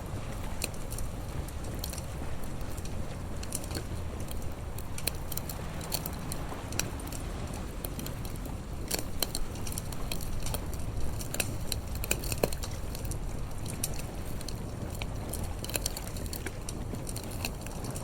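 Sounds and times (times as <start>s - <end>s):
low fire rumble: 0.0s - 18.0s
wood fire crackling: 0.0s - 18.0s.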